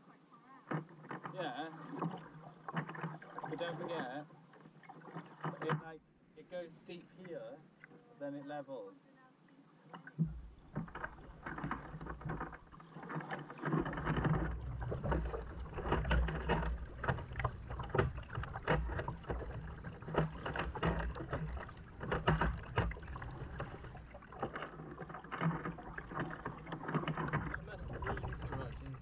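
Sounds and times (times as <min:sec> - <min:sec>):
water sloshing against hull: 0:00.0 - 0:29.0
paddle splashing in water: 0:00.6 - 0:05.9, 0:09.8 - 0:29.0.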